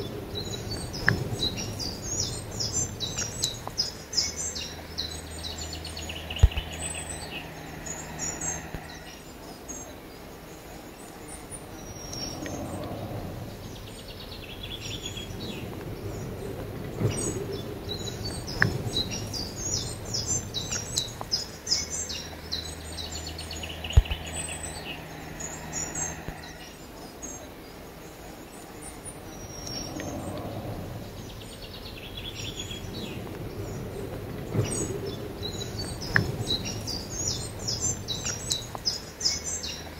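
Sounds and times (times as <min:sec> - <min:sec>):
low hum: 0:00.0 - 0:39.9
songbirds chirping: 0:00.0 - 0:39.9.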